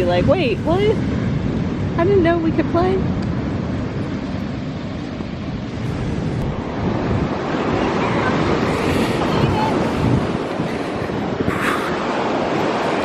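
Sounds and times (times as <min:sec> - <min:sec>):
ocean surf breaking: 0:00.0 - 0:13.0
wind rumble on microphone: 0:00.0 - 0:13.0.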